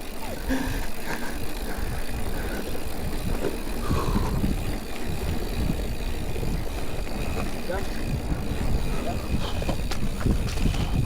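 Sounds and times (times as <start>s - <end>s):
bike knocks and rattles: 0.0s - 11.0s
bike tyres rumbling on trail: 0.0s - 11.0s.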